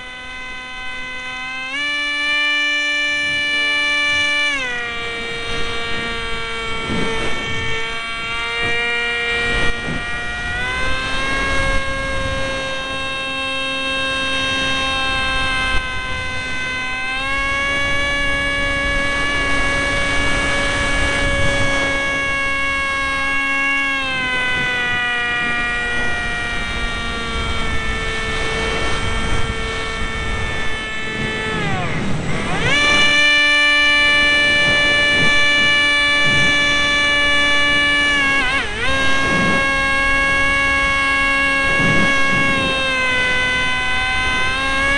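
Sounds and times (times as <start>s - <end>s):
model plane motor whining: 0.0s - 44.9s
wind buffeting microphone: 3.2s - 44.9s.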